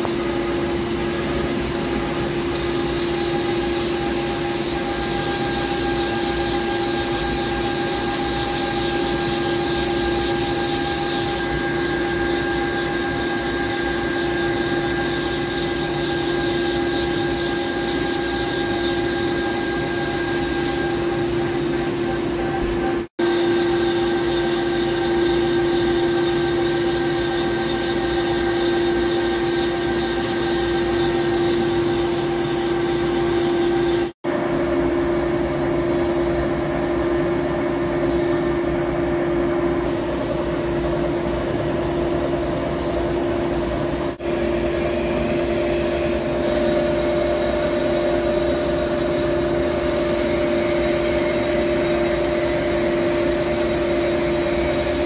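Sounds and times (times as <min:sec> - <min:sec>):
lathe machine hum: 0:00.0 - 0:55.0.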